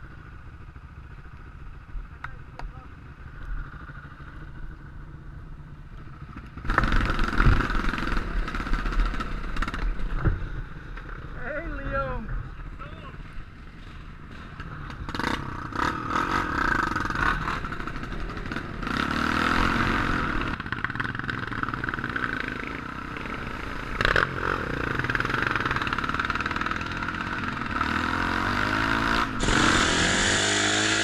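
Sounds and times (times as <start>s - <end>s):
motorcycle engine revving: 2.3s - 12.9s, 13.6s - 31.0s.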